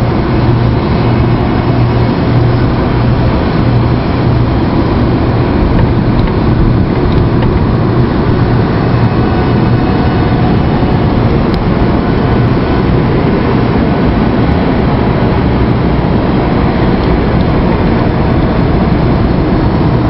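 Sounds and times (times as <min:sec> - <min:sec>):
low rumble of vehicle noise: 0:00.0 - 0:20.0.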